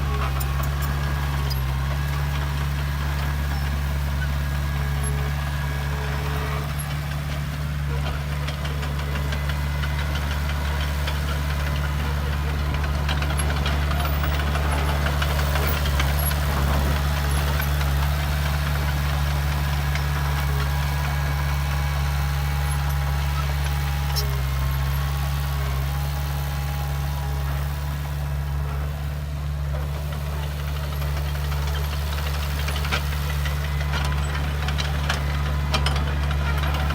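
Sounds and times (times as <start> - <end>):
heavy diesel engine running: 0.0 - 36.9.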